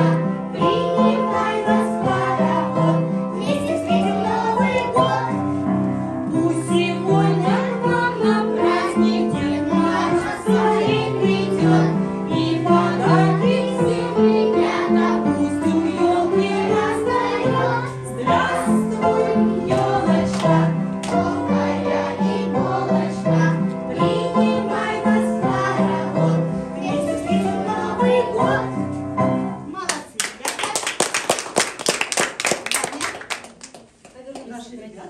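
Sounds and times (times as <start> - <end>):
children singing a song: 0.0 - 29.0.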